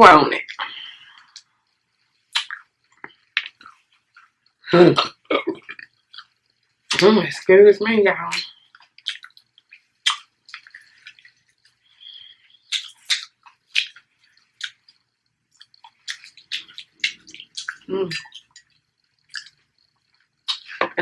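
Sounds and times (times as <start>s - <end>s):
wet chewing and crunching: 0.8s - 4.6s, 5.6s - 7.1s, 8.3s - 20.8s.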